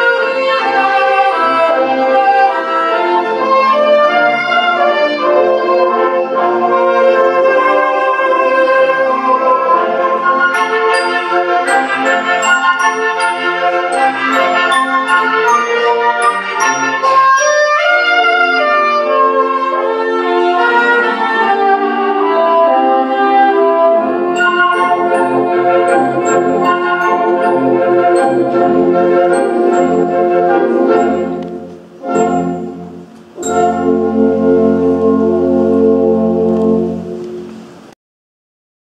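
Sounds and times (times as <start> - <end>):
low tuba notes: 0.0 - 37.7
wind band playing: 0.0 - 37.9.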